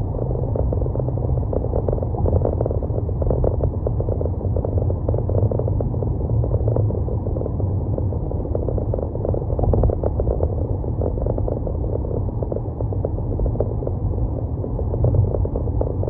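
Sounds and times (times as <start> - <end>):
road and tyre rumble: 0.0 - 16.0.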